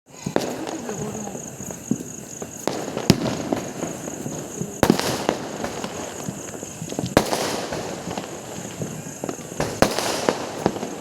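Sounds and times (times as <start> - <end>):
firecracker pops and crackling: 0.1 - 11.0
firecracker bangs: 0.2 - 11.0.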